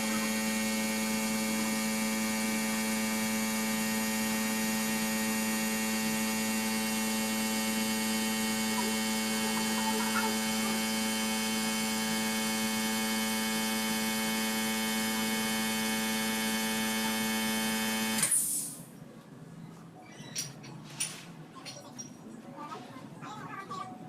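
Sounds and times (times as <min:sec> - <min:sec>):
electrical machine hum: 0:00.0 - 0:24.0.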